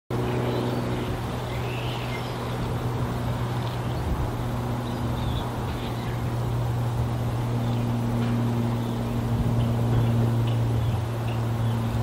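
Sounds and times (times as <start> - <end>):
propeller plane engine drone: 0.1 - 12.0.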